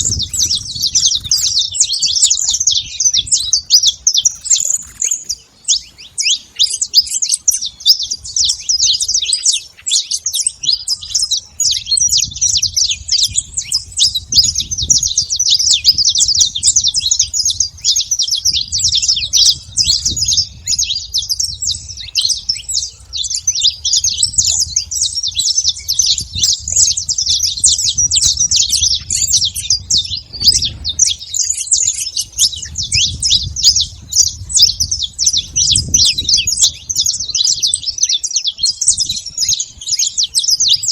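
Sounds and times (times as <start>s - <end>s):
finch singing rapid chirps: 0.0s - 40.9s.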